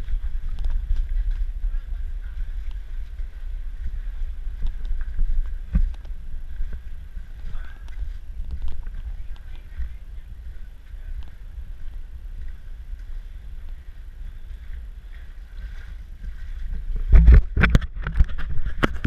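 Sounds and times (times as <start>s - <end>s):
wind and surf rumble: 0.0s - 19.0s.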